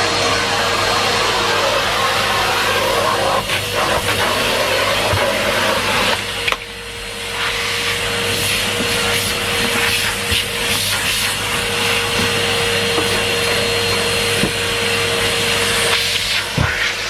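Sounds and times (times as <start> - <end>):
vacuum cleaner whine: 0.0 - 17.0.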